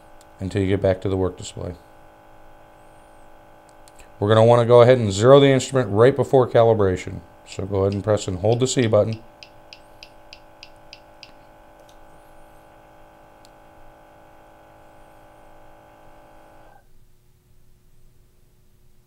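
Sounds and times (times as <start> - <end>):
sampling pump hum: 0.0 - 16.9.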